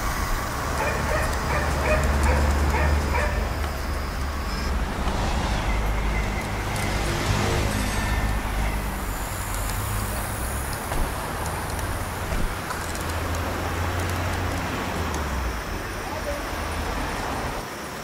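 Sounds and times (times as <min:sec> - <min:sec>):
model tram motor hum: 0:00.0 - 0:18.0.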